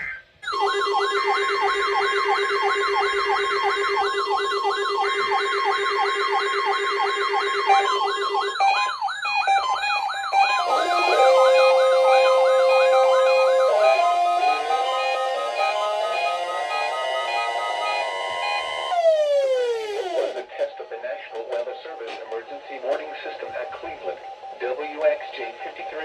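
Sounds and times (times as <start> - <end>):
siren-like wail: 0.0 - 26.0
steady alarm tone: 0.0 - 26.0.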